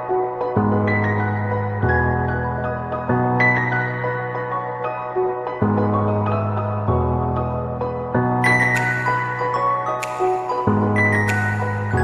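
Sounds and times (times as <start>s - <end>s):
soft ambient instrumental music: 0.0s - 12.0s.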